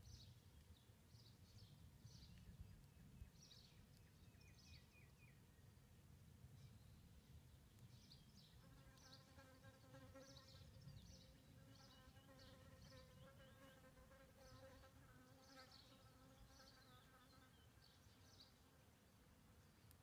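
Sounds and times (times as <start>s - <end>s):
small birds chirping: 0.0s - 5.8s, 6.5s - 20.0s.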